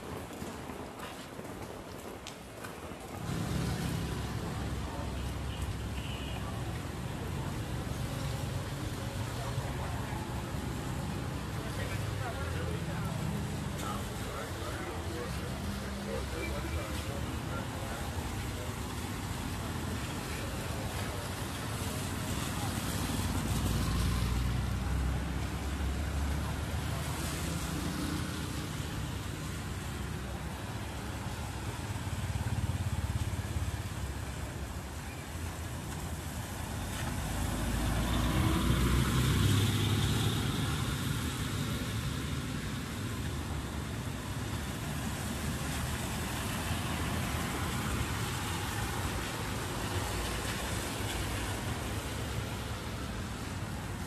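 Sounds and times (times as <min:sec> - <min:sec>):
tyres hissing on wet road: 0:00.1 - 0:54.0
cars and motorbikes passing: 0:03.0 - 0:54.0.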